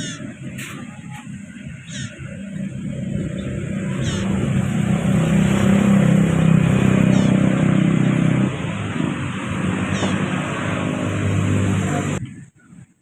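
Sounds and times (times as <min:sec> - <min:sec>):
high bird chirps: 0:00.0 - 0:11.2
vehicle engine running: 0:00.0 - 0:12.2.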